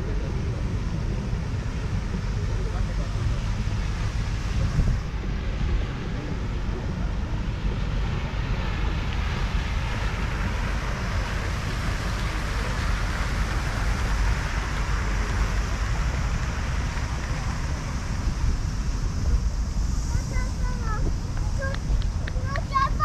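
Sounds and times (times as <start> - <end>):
steady outdoor hiss: 0.0 - 23.0
wind rumbling on microphone: 0.0 - 23.0.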